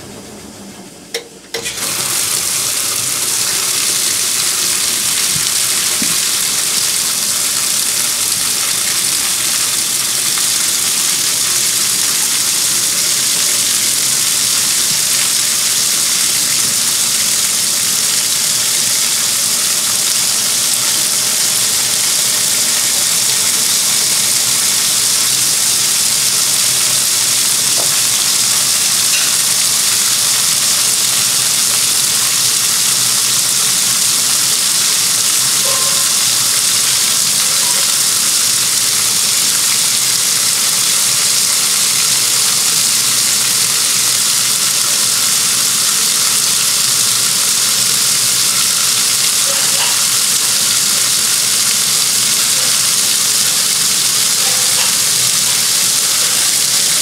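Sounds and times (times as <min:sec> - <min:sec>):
water filling washer tub: 0:00.0 - 0:57.0.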